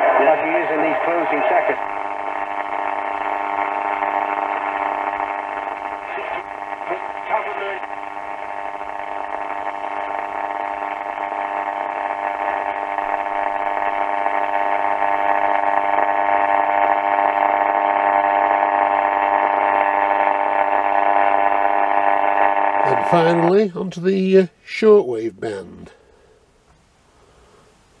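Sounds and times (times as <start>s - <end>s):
radio buzzing interference: 0.0s - 26.0s.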